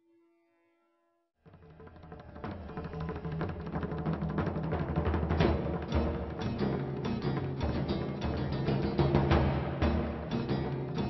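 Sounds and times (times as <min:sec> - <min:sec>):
drum beats: 0:01.5 - 0:11.0.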